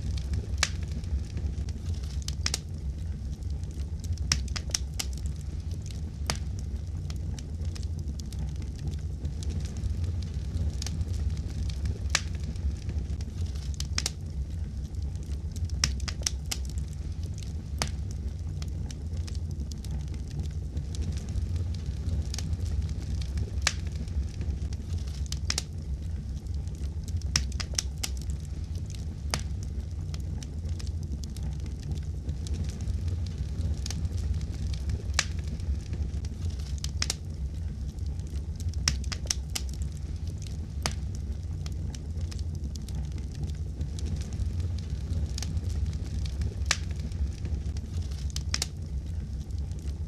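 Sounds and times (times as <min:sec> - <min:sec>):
fire crackling: 0:00.0 - 0:50.0
fire popping and snapping: 0:00.0 - 0:50.0.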